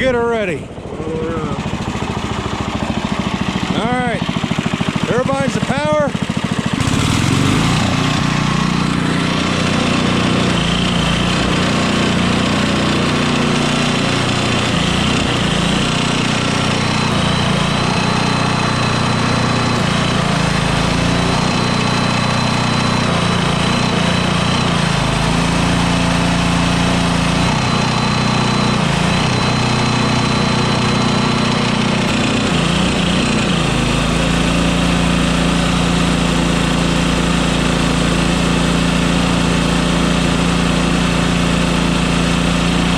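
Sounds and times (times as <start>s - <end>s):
generator welder engine running: 0.0s - 42.9s.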